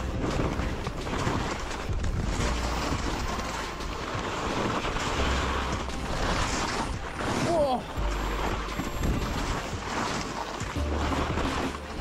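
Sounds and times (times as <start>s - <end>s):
skis scraping over hard snow: 0.0s - 12.0s
wind rumbling on microphone: 0.0s - 12.0s.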